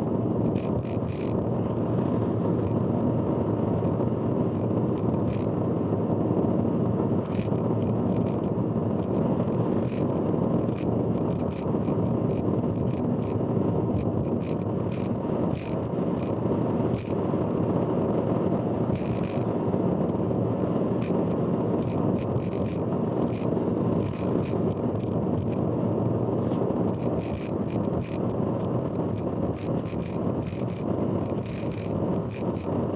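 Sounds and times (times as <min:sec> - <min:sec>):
sharp clicks and rattles: 0:00.4 - 0:01.9, 0:03.8 - 0:05.5, 0:07.2 - 0:32.9
car road and engine noise: 0:00.4 - 0:32.9.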